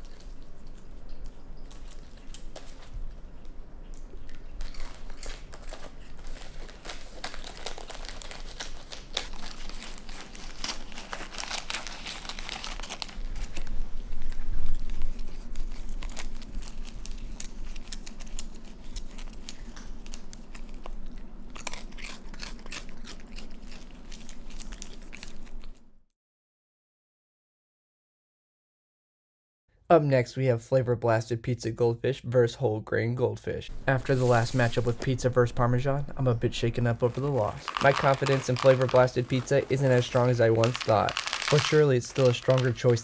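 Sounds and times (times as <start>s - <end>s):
carton and foil bag crinkling: 0.0s - 3.5s, 4.1s - 25.8s, 33.7s - 43.0s
animal crunching and chewing: 0.0s - 25.8s, 33.7s - 43.0s.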